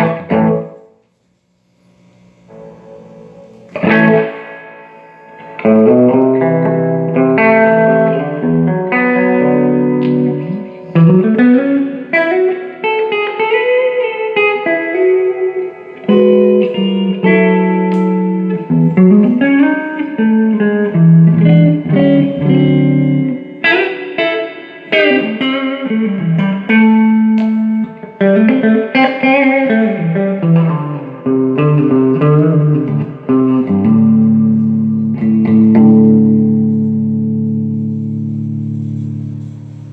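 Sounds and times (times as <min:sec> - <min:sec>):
electric guitar playing: 0:00.0 - 0:01.1, 0:01.7 - 0:39.9.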